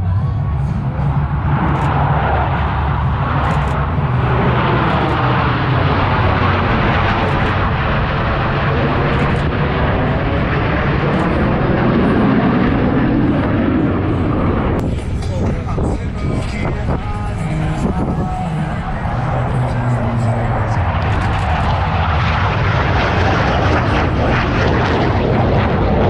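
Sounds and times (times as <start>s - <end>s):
jet engines roaring overhead: 0.0s - 26.0s.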